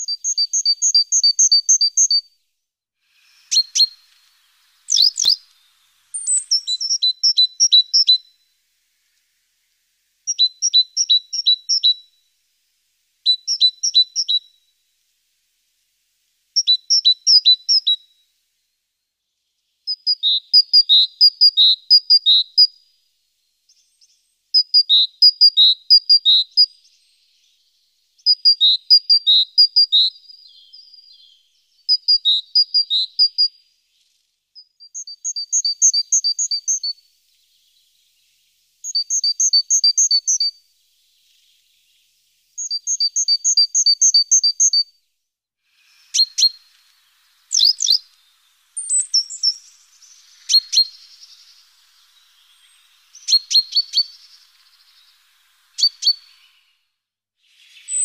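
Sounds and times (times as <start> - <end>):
songbird singing: 0.0 - 2.4, 3.1 - 45.0, 45.7 - 58.0.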